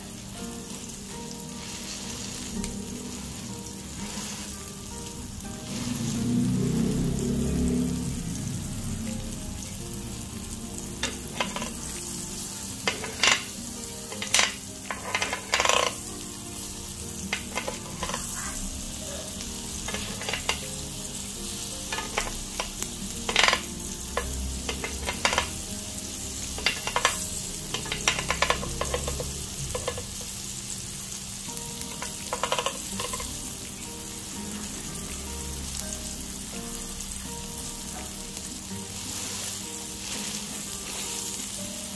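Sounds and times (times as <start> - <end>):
steak sizzling in a pan: 0.0 - 41.9.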